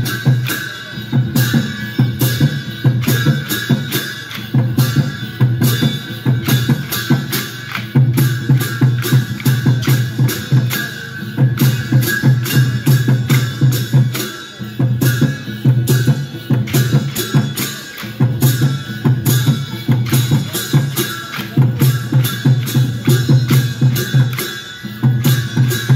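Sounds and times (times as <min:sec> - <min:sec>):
drums in quick beat: 0:00.0 - 0:25.9
sharp percussive clicks: 0:01.4 - 0:14.4, 0:15.0 - 0:25.9.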